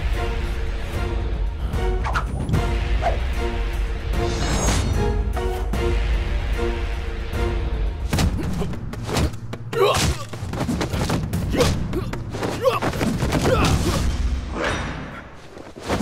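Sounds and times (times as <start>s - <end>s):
film music score: 0.0s - 16.0s.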